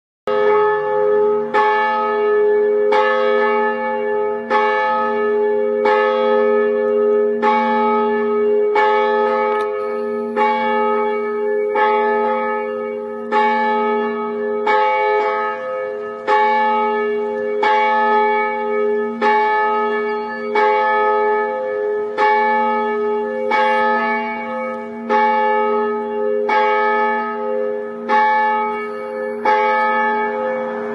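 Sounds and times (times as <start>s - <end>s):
church bell ringing: 0.3s - 30.9s.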